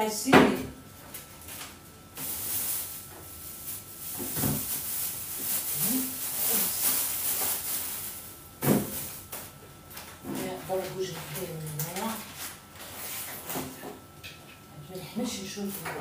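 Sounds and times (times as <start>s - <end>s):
plastic bag rustling: 1.0s - 14.1s.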